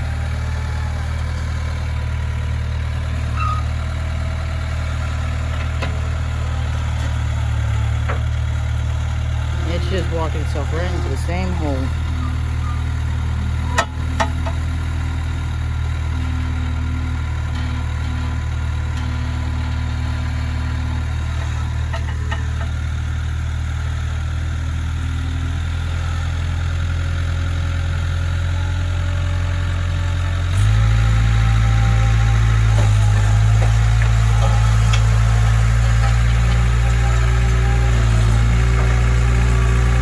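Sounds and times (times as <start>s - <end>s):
skid steer engine running: 0.0s - 40.0s.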